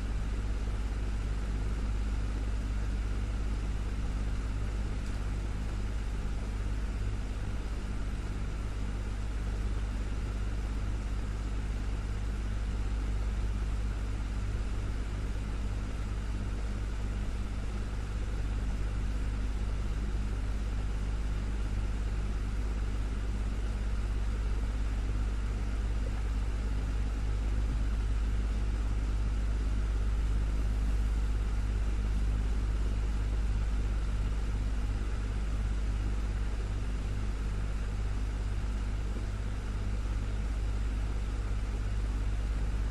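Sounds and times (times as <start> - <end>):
desktop fan running: 0.0 - 42.9.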